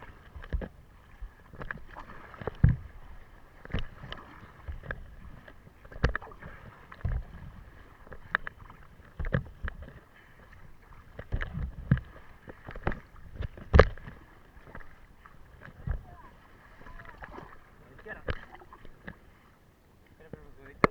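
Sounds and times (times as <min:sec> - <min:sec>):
paddle knocks: 0:00.0 - 0:19.3, 0:20.2 - 0:20.9
paddle strokes splashing water: 0:00.0 - 0:20.9.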